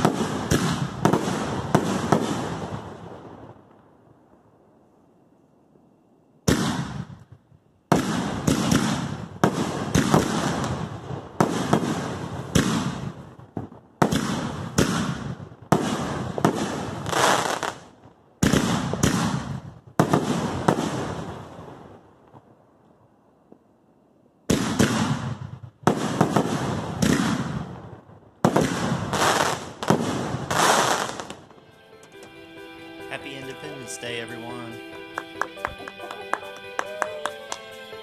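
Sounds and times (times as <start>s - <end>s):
fireworks bursting: 0.0s - 4.8s, 6.4s - 23.7s, 24.4s - 38.0s.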